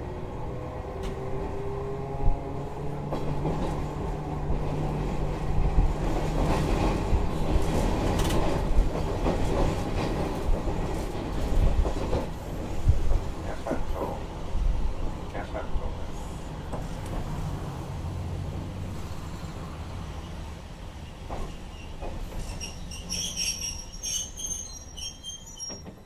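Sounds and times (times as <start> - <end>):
streetcar running hum: 0.0 - 26.0.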